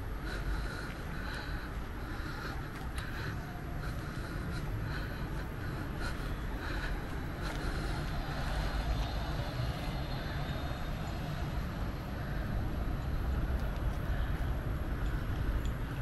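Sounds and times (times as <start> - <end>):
city ambience rumble: 0.0 - 16.0.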